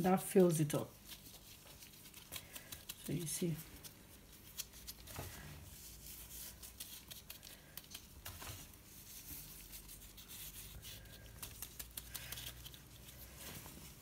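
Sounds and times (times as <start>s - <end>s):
gloved hands rustling and crinkling: 0.0s - 14.0s.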